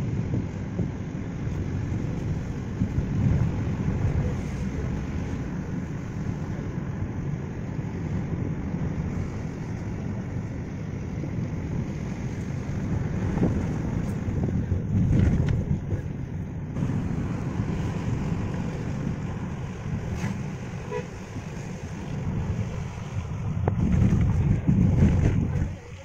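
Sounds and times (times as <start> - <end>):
car driving on wet road: 0.0 - 26.0
wind noise: 0.0 - 26.0.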